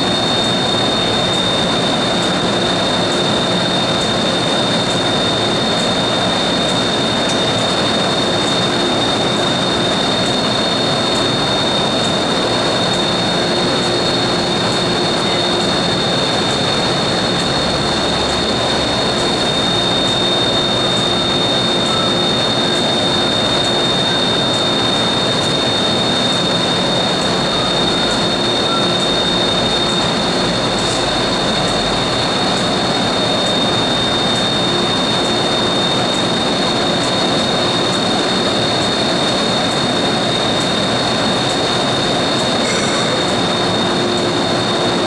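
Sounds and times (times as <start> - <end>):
high constant whine: 0.0 - 45.0
train equipment rushing hum: 0.0 - 45.0.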